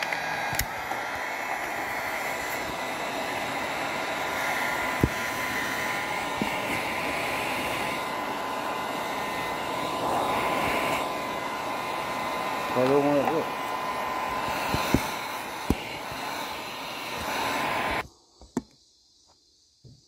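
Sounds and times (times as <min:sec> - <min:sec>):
heat gun blowing with whine: 0:00.0 - 0:18.7.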